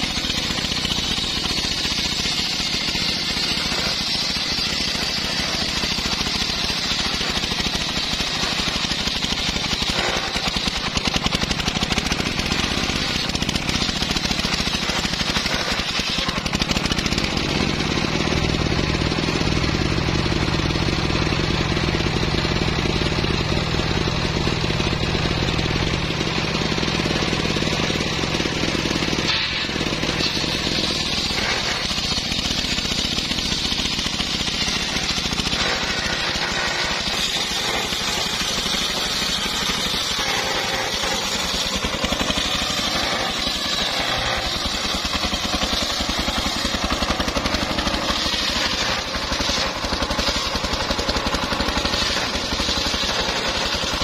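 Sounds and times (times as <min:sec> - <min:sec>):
engine running under load: 0:00.0 - 0:54.0
saw blade hissing through wood: 0:00.0 - 0:54.0.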